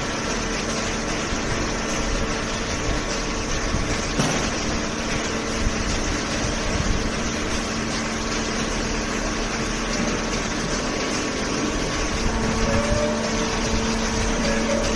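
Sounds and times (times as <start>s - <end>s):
hydraulic motor and pump hum: 0.0s - 14.9s.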